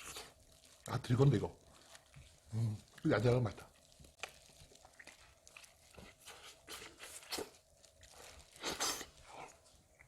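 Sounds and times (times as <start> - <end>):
person chewing and tearing meat: 0.0 - 1.0, 1.6 - 10.0.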